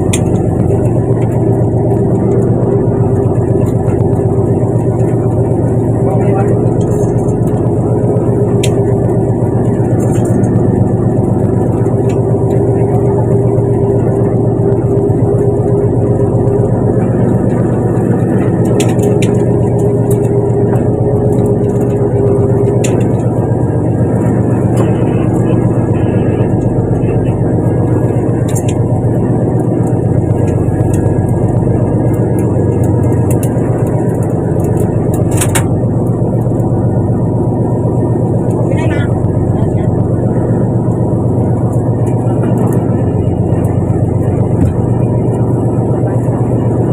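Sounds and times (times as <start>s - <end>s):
boat engine low drone: 0.0s - 46.9s.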